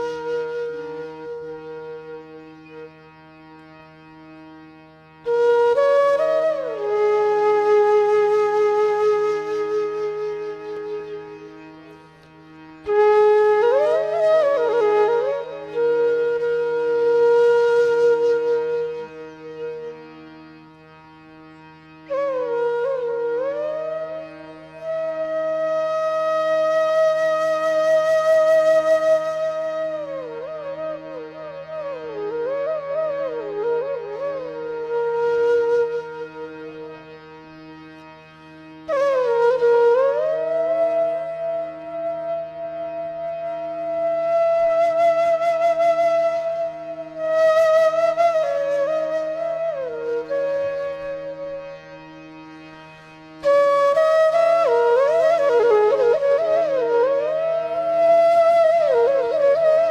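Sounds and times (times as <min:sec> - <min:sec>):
flute melody: 0:00.0 - 0:03.8, 0:05.2 - 0:20.3, 0:22.0 - 0:37.7, 0:38.8 - 0:52.3, 0:53.0 - 0:59.9.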